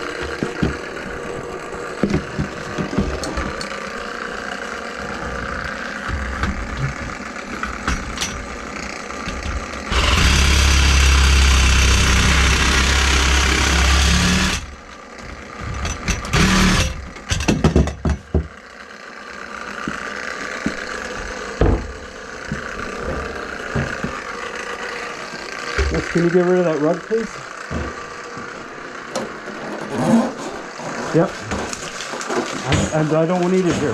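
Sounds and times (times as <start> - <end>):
power tool motor humming: 0.0 - 33.9.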